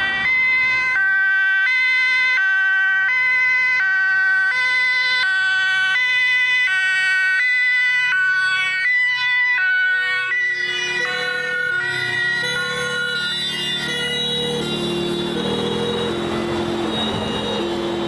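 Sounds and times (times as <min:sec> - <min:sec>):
second two-tone siren: 0:00.0 - 0:18.0
two-tone emergency siren: 0:00.0 - 0:18.0.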